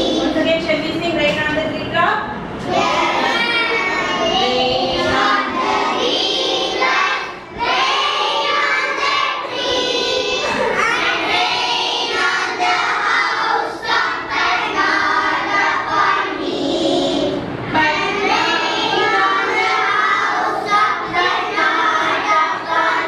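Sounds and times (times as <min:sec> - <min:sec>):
children reciting in unison: 0:00.0 - 0:00.4, 0:02.6 - 0:23.0.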